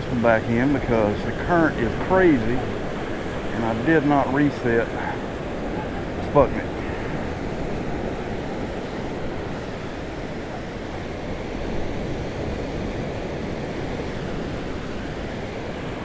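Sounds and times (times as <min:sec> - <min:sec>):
ocean surf breaking: 0:00.0 - 0:16.0
wind rumbling on microphone: 0:00.0 - 0:16.0.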